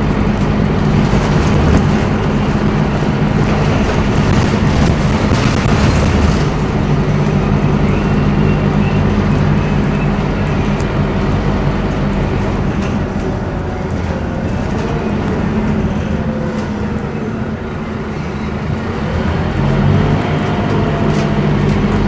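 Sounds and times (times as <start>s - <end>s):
bus diesel engine running: 0.0s - 22.0s
road and tyre noise: 0.0s - 22.0s.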